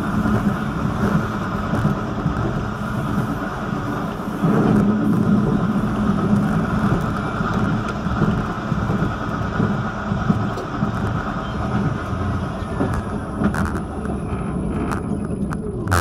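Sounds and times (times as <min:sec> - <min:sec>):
tram rolling on track: 0:00.0 - 0:16.0.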